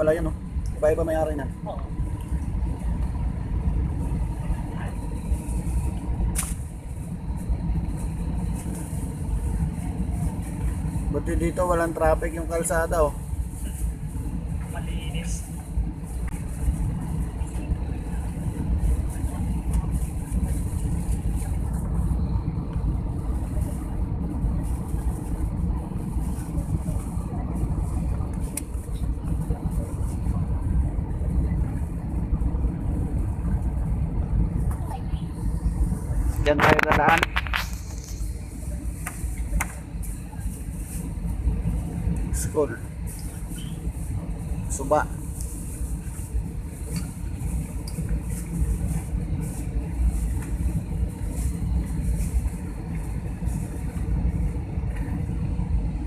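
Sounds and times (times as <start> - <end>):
high airflow hiss: 0.0 - 56.0
jet airliner cabin rumble: 0.0 - 56.0.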